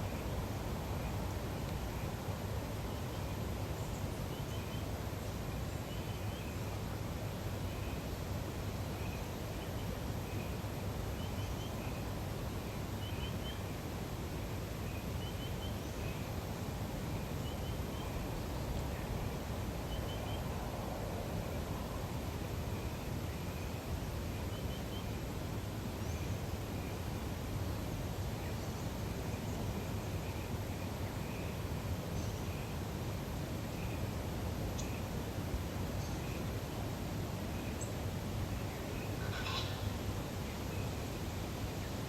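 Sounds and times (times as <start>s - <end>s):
steady background hiss: 0.0s - 42.0s.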